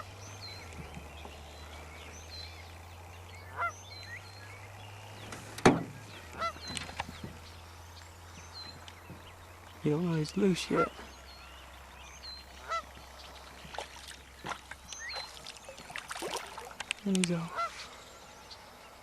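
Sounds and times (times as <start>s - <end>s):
birds honking: 0.0s - 19.0s
steady low hum: 0.0s - 19.0s.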